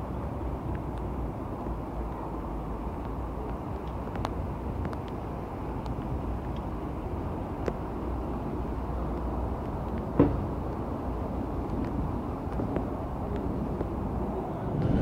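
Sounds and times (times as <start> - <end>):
locomotive diesel engines rumbling: 0.0 - 15.0.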